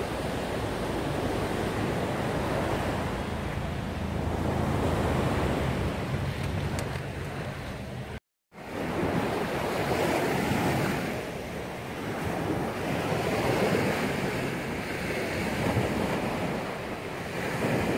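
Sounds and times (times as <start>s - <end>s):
ocean surf washing onto beach: 0.0s - 17.9s
wind buffeting microphone: 0.0s - 17.9s.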